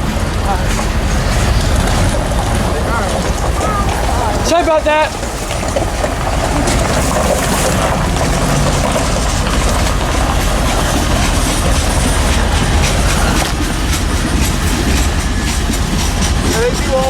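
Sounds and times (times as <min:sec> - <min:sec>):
freight train rumbling past: 0:00.0 - 0:17.0
wheels clicking over rail joints: 0:00.0 - 0:17.0.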